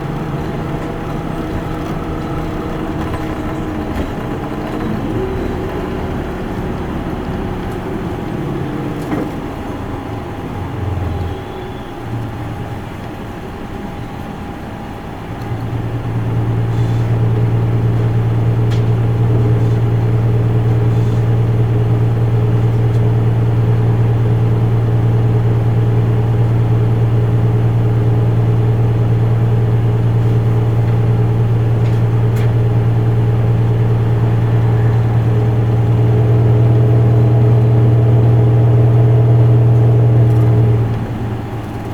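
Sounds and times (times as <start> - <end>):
bus diesel engine droning: 0.0 - 41.9.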